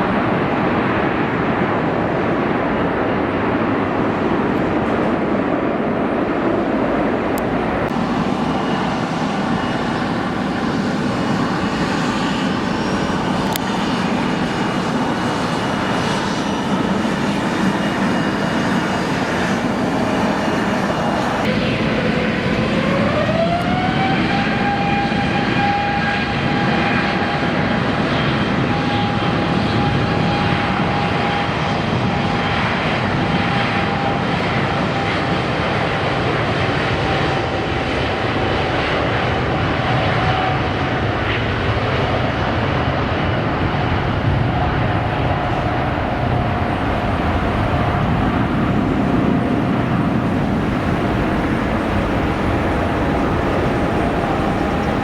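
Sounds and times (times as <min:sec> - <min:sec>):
airliner engines rumbling and whining: 0:00.0 - 0:55.0.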